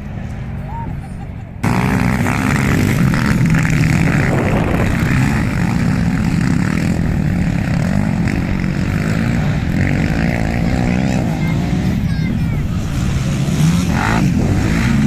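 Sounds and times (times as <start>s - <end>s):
quad bike engines running: 0.0s - 15.0s.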